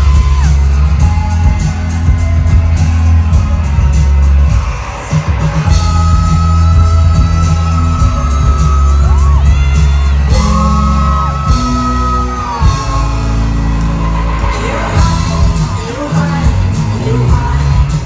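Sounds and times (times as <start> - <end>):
crowd yelling: 0.0 - 18.0
heavy bass: 0.0 - 18.0
live band music through pa: 0.0 - 18.0
person singing: 3.4 - 18.0.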